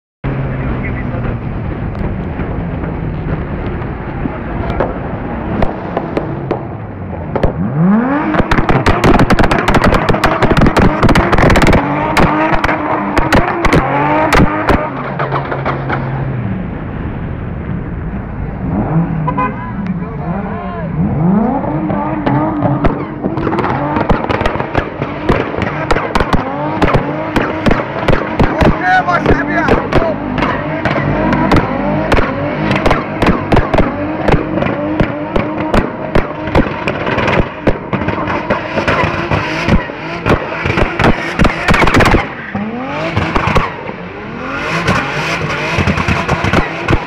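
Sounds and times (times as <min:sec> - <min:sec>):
car engine revving: 0:00.2 - 0:47.0
exhaust pops and cracks: 0:01.1 - 0:16.3, 0:22.2 - 0:44.0, 0:44.8 - 0:47.0.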